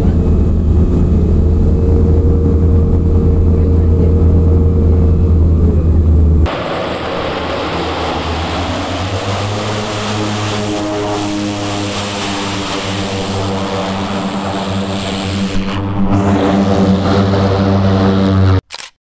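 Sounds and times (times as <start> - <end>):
turboprop engines running: 0.0 - 18.6.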